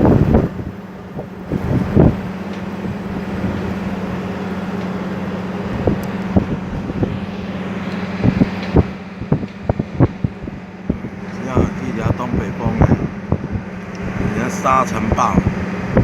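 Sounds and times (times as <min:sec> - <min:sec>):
constant low hum: 0:00.0 - 0:16.0
gusty bumps: 0:00.0 - 0:16.0
strong wind blowing over microphone: 0:00.0 - 0:16.0.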